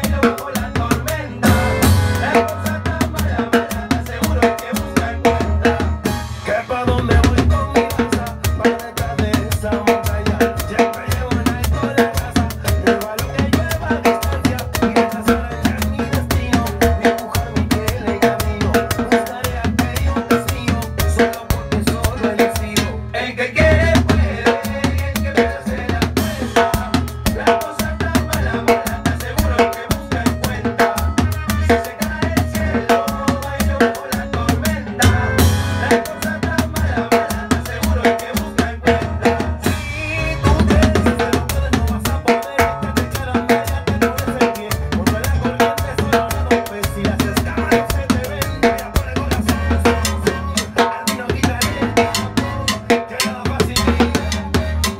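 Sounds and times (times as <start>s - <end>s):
salsa band recording: 0.0s - 54.9s.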